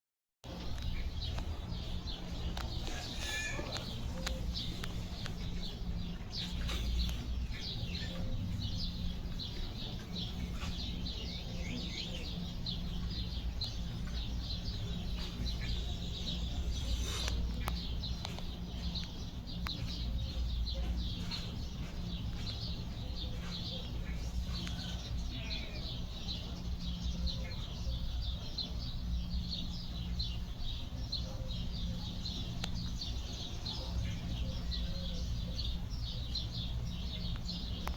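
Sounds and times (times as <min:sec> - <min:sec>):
small birds chirping: 0:00.4 - 0:37.9
steady low hum: 0:00.5 - 0:37.9.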